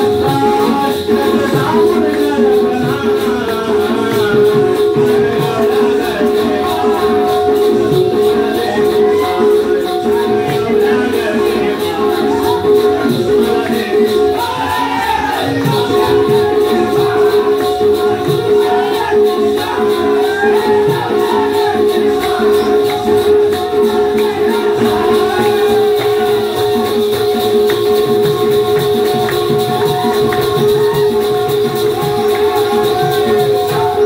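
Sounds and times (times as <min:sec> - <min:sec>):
jingling percussion: 0:00.0 - 0:34.0
person singing: 0:00.0 - 0:34.0.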